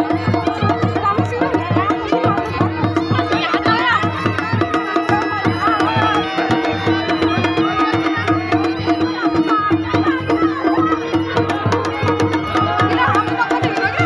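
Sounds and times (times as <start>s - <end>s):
drums keeping steady beat: 0.0s - 14.0s
wavering melody line: 2.0s - 14.0s.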